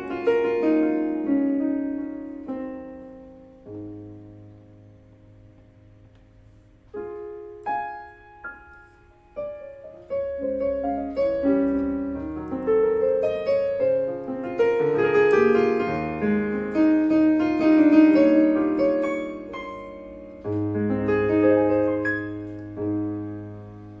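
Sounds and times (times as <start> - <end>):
keyboard piano chords: 0.0 - 24.0.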